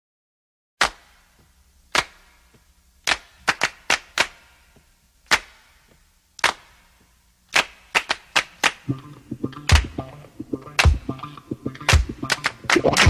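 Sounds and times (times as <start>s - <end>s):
handclaps with echo: 0.8s - 10.1s, 10.8s - 13.0s.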